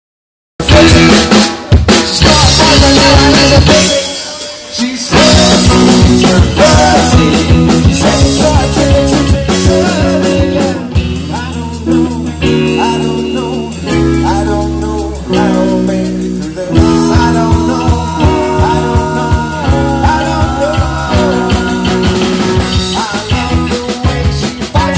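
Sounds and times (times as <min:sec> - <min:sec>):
rock band playing: 0:00.6 - 0:24.9.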